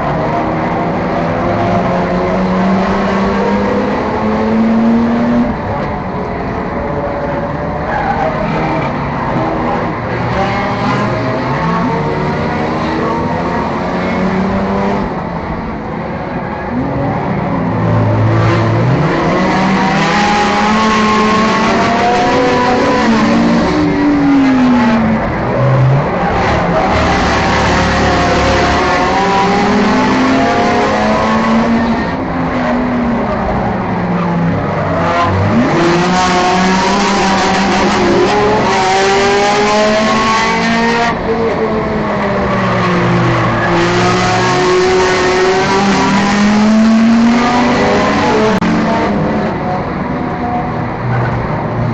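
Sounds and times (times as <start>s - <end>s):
race car engines racing: 0.0s - 51.9s.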